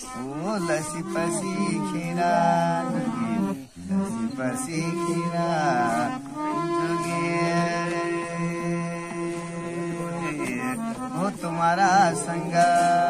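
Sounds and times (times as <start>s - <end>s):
harmonium holding notes: 0.0s - 13.0s
person singing devotional song: 0.0s - 13.0s.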